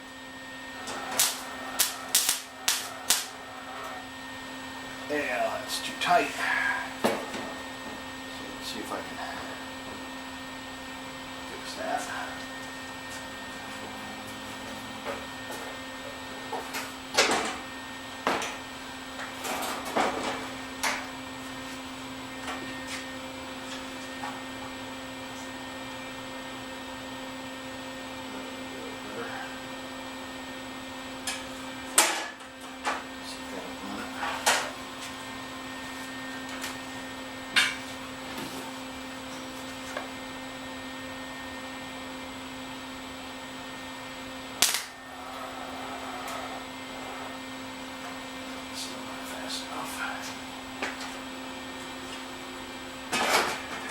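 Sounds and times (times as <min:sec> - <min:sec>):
welder mains hum: 0:00.0 - 0:53.9.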